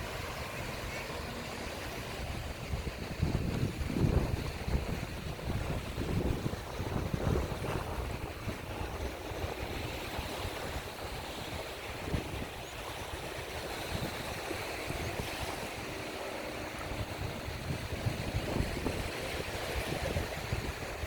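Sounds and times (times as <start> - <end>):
sea surf hiss: 0.0 - 21.0
wind buffeting microphone: 0.0 - 21.0.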